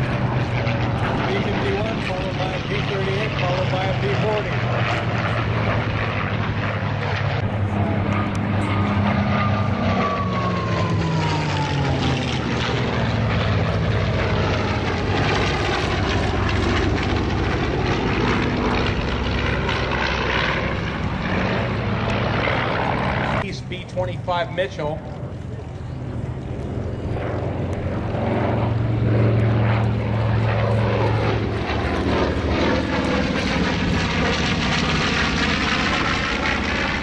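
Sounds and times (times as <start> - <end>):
propeller plane flyby: 0.0 - 37.0.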